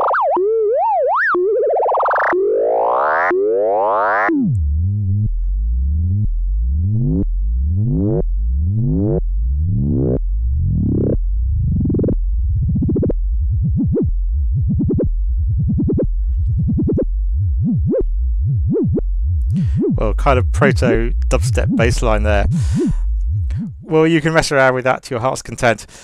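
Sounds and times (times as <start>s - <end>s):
wobbling synthesizer bass: 0.0s - 24.4s.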